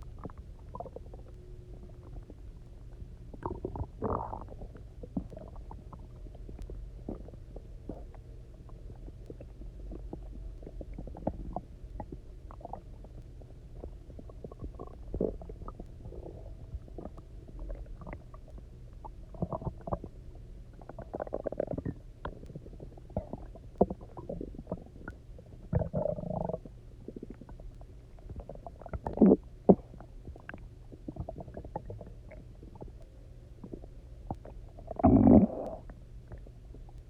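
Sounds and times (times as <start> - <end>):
stomach rumbling and gurgling: 0.0 - 37.0.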